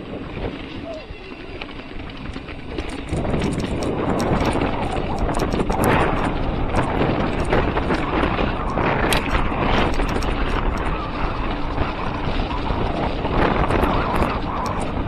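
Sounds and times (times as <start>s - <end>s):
bike clicks and rattles: 0.0s - 15.0s
bike tyre noise: 0.0s - 15.0s
wind buffeting microphone: 0.0s - 15.0s.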